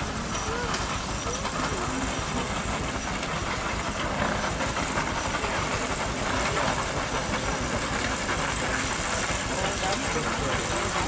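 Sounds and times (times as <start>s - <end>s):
farm machinery clattering: 0.0s - 11.0s
machinery hiss: 0.0s - 11.0s.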